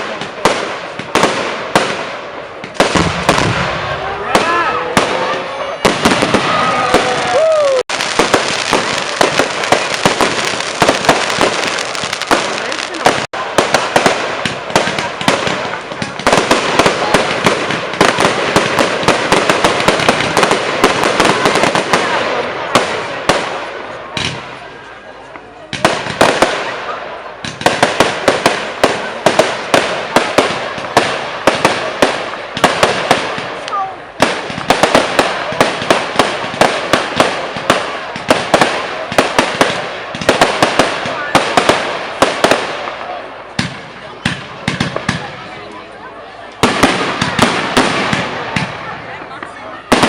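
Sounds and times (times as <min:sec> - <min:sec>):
firework bangs: 0:00.0 - 0:25.0, 0:25.6 - 0:45.7, 0:46.4 - 0:50.0
firework crackling: 0:00.0 - 0:50.0.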